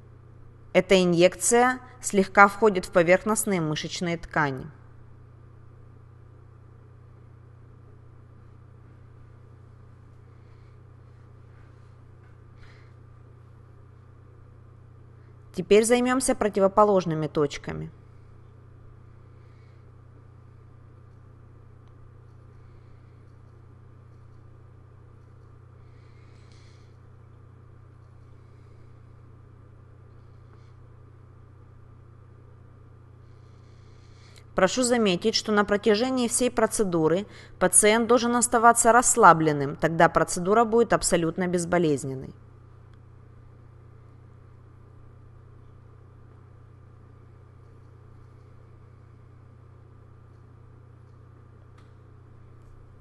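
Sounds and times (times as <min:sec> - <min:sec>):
low hum with faint hiss: 0:00.0 - 0:53.0.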